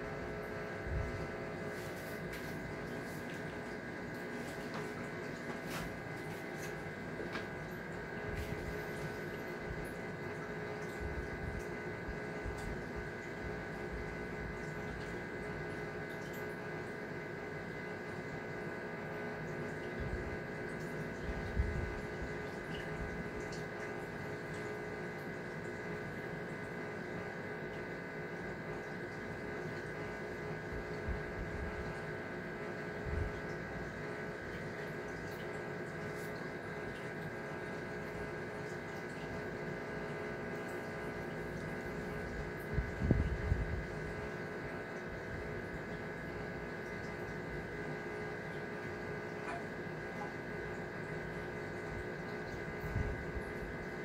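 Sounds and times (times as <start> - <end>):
aquarium pumps humming: 0.0 - 54.0
circulating water: 0.0 - 54.0.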